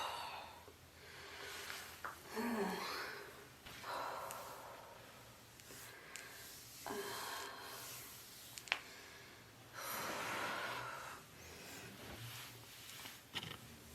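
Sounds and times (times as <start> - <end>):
woman breathing: 0.0 - 12.5.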